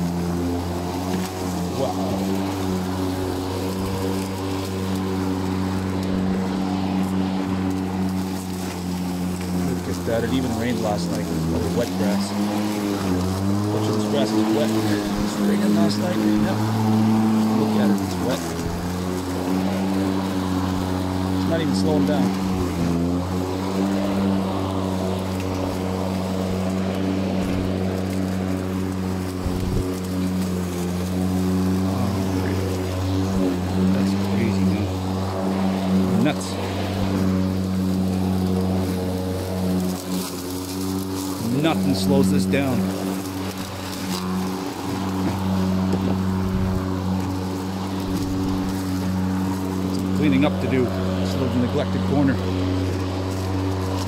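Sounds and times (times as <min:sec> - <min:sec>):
lawnmower cutting long grass: 0:00.0 - 0:54.0.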